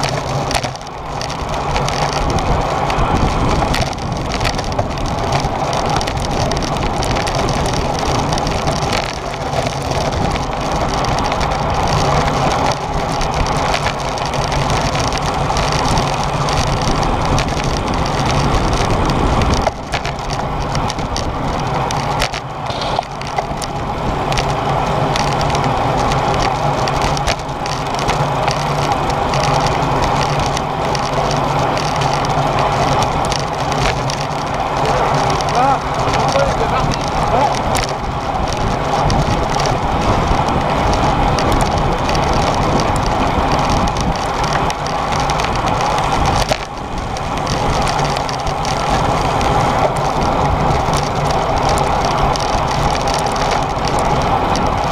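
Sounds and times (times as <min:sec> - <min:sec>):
tyre and road noise: 0:00.0 - 0:54.9
wind rush on microphone: 0:00.0 - 0:54.9.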